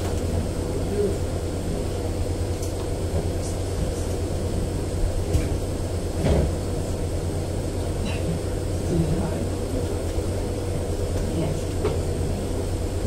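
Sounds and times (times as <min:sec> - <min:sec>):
low room rumble and hum: 0:00.0 - 0:13.0.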